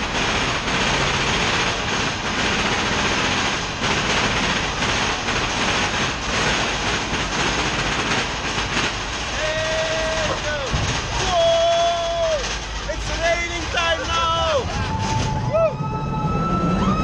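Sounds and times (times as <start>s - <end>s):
roller coaster wheels rumbling: 0.0s - 17.0s.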